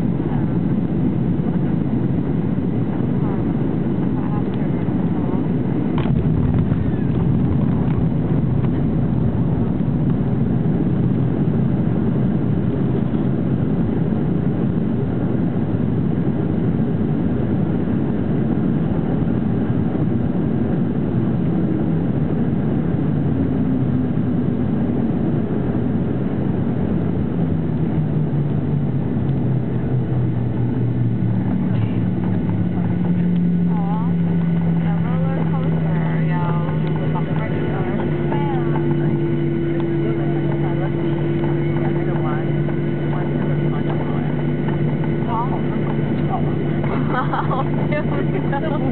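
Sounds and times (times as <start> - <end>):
faint humming tones: 0.0 - 48.9
jet engine cabin rumble: 0.0 - 48.9.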